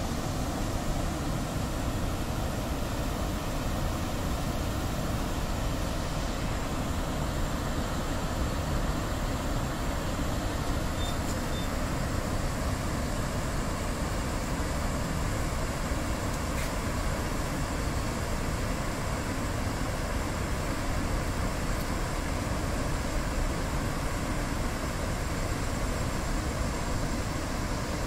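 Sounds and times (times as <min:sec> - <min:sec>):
floodwater rushing river roar: 0:00.0 - 0:28.0.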